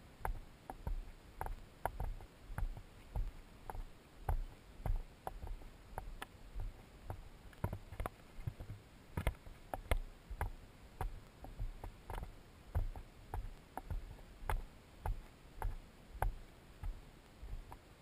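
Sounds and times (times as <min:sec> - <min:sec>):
footsteps on dirt trail: 0:00.0 - 0:17.7
camera jostling against clothing: 0:00.2 - 0:17.9.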